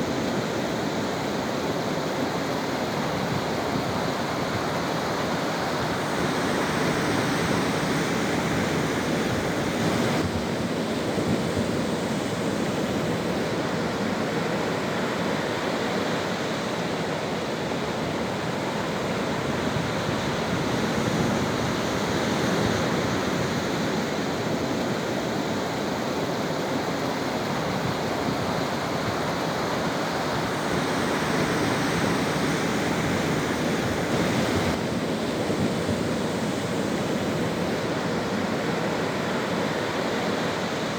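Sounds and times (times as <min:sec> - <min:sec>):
sea surf washing in: 0:00.0 - 0:40.9.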